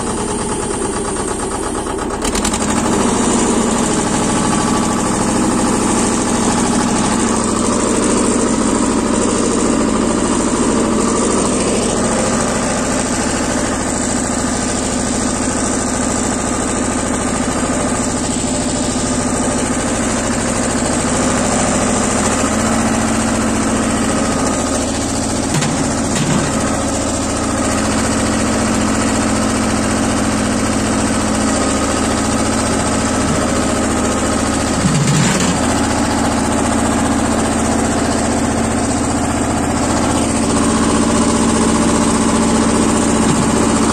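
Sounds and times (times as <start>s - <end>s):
tractor diesel engine running: 0.0s - 43.9s
box scraper levelling dirt: 2.2s - 43.9s.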